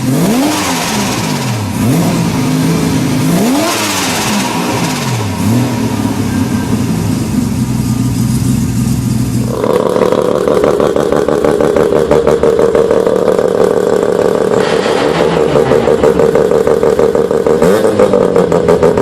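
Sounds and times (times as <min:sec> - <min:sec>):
engine at high revs: 0:00.0 - 0:08.1, 0:09.5 - 0:19.0
rotary engine at low revs: 0:00.0 - 0:19.0.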